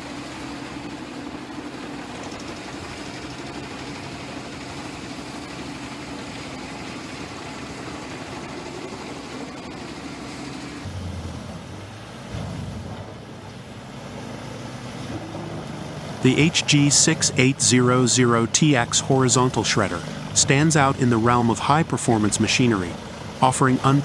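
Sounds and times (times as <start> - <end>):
wood chipper engine droning: 0.0 - 24.0.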